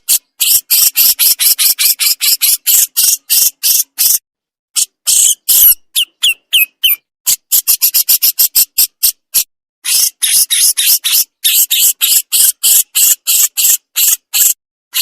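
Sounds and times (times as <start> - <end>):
bird giving harsh rasping call: 0.0 - 4.2, 4.8 - 15.0.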